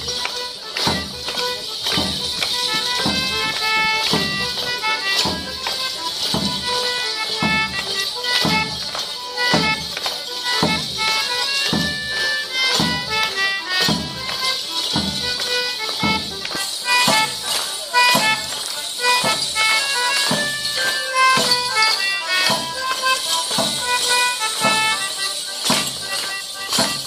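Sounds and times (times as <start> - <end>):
folk dance tune on reedy wind instrument: 0.0 - 27.0
jingling bells: 0.0 - 27.0.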